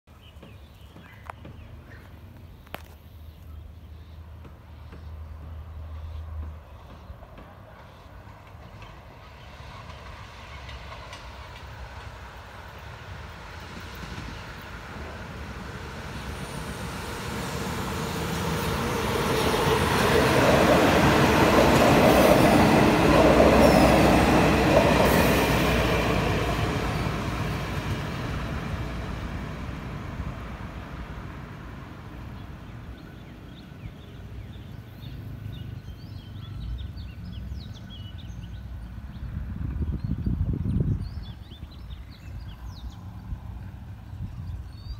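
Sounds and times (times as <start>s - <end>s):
diesel train passing: 3.4s - 44.9s.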